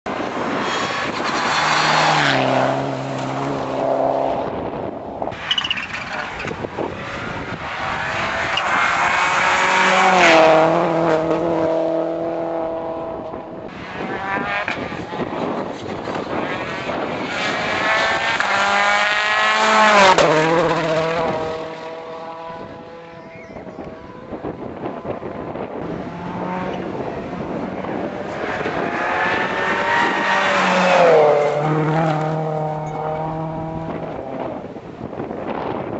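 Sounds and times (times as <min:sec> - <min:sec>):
rally car engine revving: 0:00.1 - 0:35.9.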